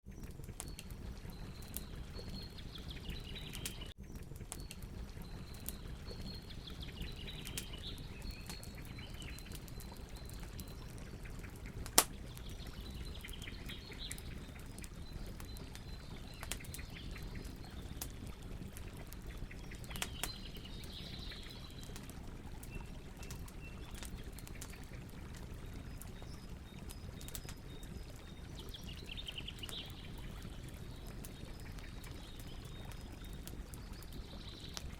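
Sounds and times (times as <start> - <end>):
campfire crackling: 0.1 - 34.9.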